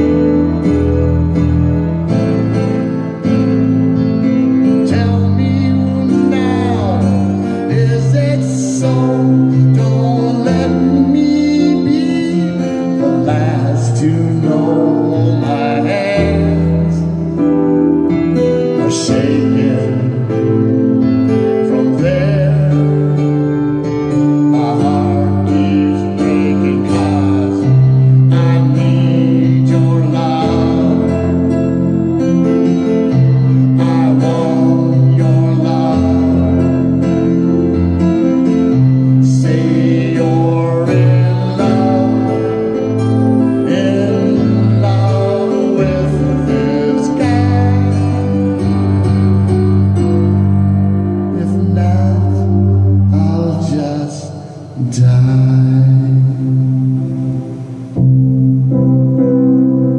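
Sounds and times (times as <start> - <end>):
man singing a slow ballad: 0.0 - 58.3
guitar: 0.0 - 59.9
sustained bass notes: 0.0 - 59.9.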